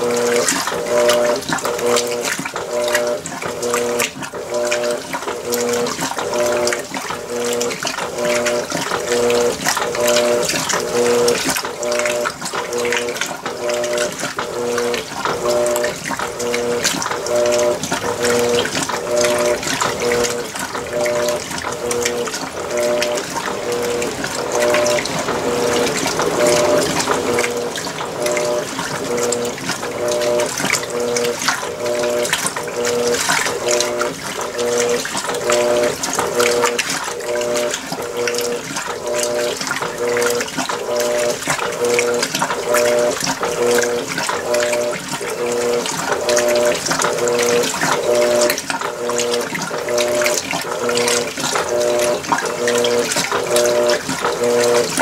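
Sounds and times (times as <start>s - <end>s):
washing machine motor humming in pulses: 0.0s - 55.0s
water sloshing: 0.0s - 55.0s.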